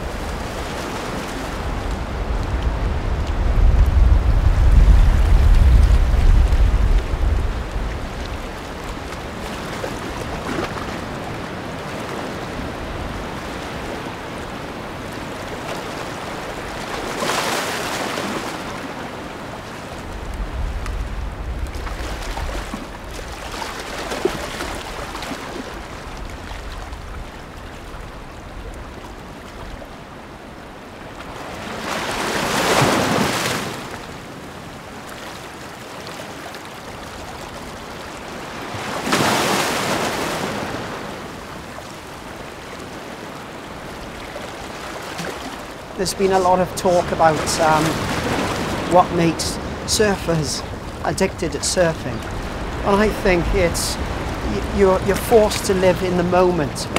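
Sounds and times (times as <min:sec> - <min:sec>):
ocean waves: 0:00.0 - 0:56.9.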